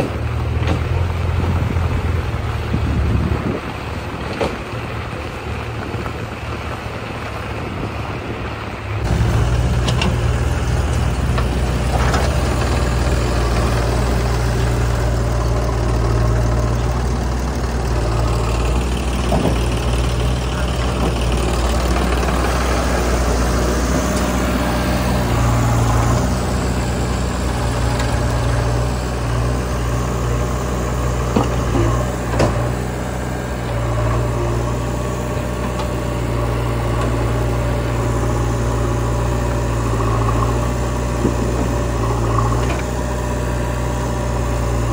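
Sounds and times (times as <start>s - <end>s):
diesel engines running at low revs: 0.0s - 44.9s.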